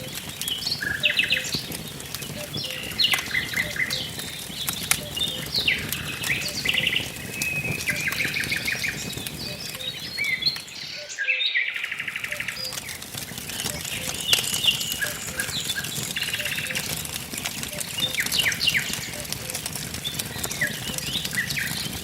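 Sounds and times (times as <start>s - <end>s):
wood fire crackling and popping: 0.0s - 11.1s, 11.7s - 22.0s
songbirds chirping and trilling: 0.0s - 22.0s.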